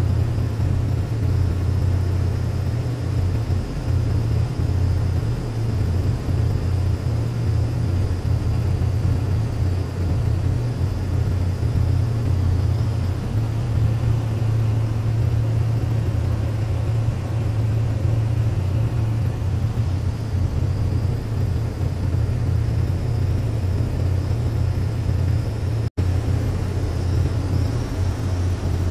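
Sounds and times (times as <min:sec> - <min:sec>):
propeller engine drone: 0:00.0 - 0:28.9.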